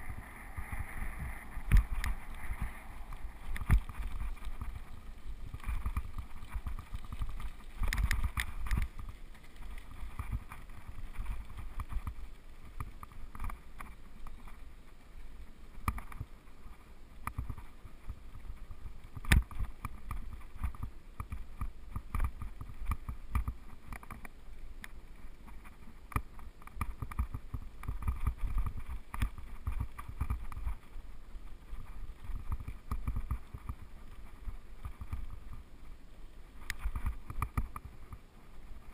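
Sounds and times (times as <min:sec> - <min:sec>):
bike rolling over gravel: 0:00.0 - 0:38.9.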